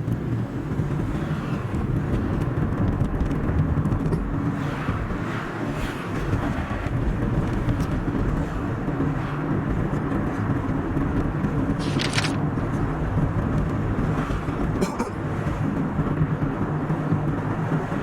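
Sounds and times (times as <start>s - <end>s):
car driving on a highway: 0.0s - 18.0s.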